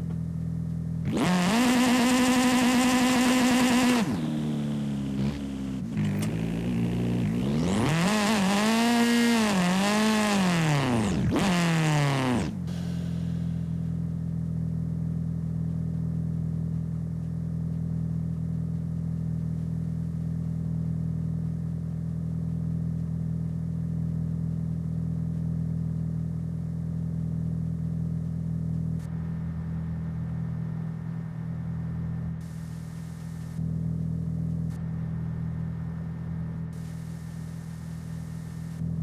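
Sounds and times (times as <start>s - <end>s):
video game car engine hum: 0.0s - 39.0s.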